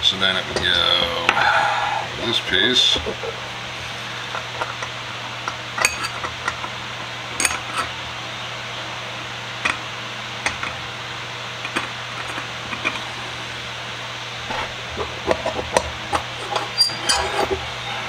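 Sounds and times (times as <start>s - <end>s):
fan hum: 0.0s - 18.0s.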